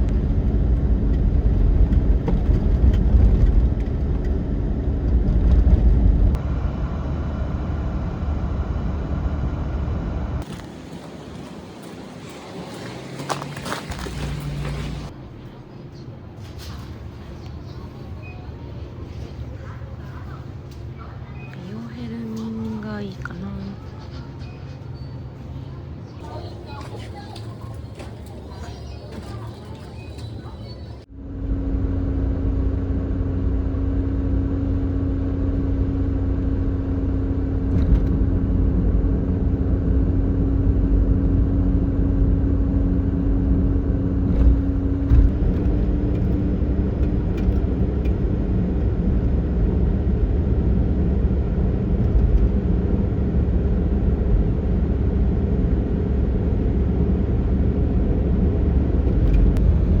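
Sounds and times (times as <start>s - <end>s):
van engine running: 0.0s - 15.4s, 25.2s - 60.0s.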